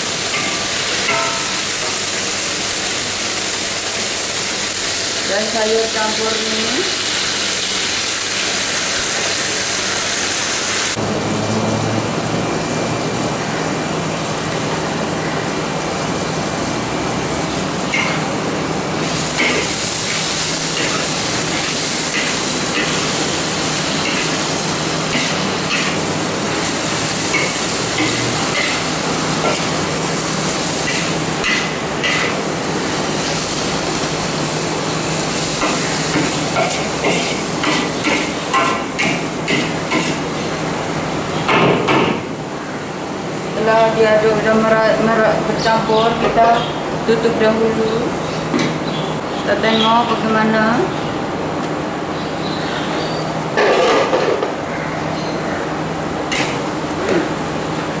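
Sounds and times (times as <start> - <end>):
vegetables sizzling in a wok: 0.0 - 49.3, 52.4 - 58.0.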